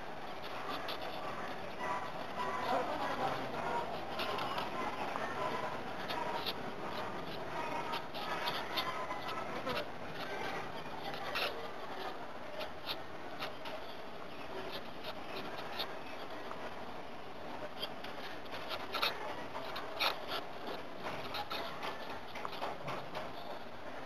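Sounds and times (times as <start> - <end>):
marker scratching on paper: 0.2 - 16.7, 17.7 - 23.6.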